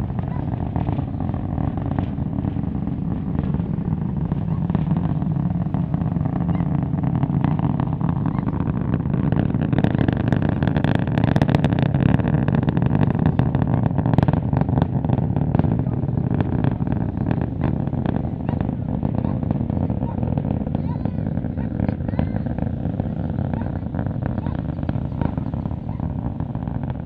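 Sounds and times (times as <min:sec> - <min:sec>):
distant rocket engine roar: 0:00.0 - 0:27.0
rocket engine crackling: 0:00.0 - 0:27.0.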